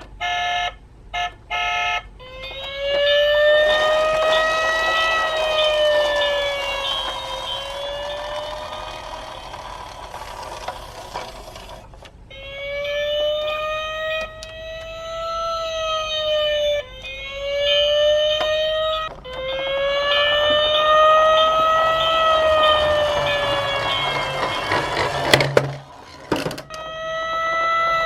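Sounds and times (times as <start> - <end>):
emergency vehicle siren wailing: 1.2 - 11.0, 12.3 - 28.0.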